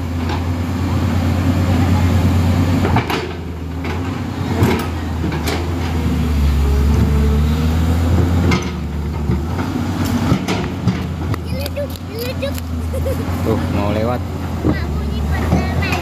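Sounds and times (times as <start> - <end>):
diesel engine running: 0.0 - 16.0
steel tracks clanking: 1.5 - 7.2, 8.0 - 16.0.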